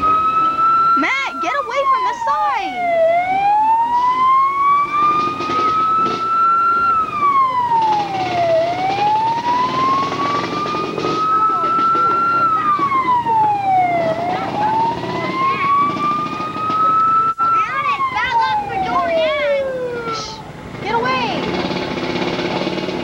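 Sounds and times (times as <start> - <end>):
emergency siren wailing: 0.0 - 23.0.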